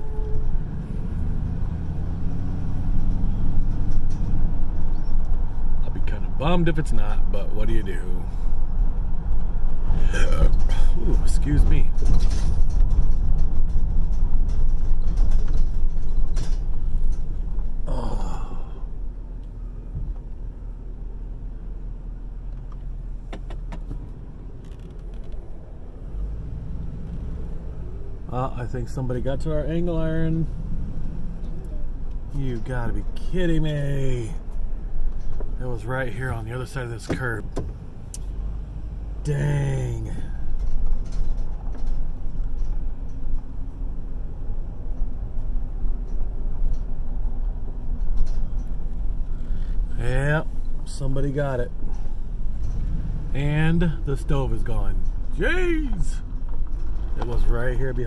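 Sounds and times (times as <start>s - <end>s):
car engine rumble from cabin: 0.0s - 58.0s.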